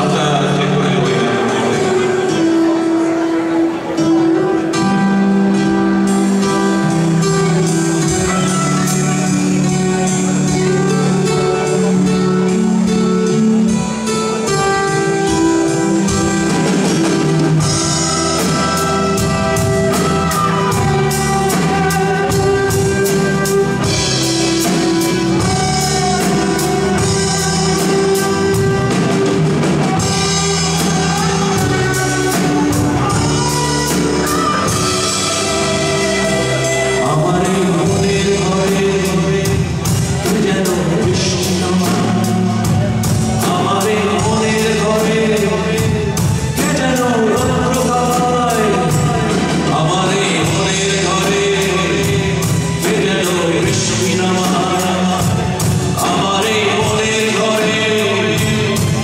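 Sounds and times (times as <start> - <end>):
drum kit beat with cymbals: 0.0 - 59.0
guitar chords: 0.0 - 59.0.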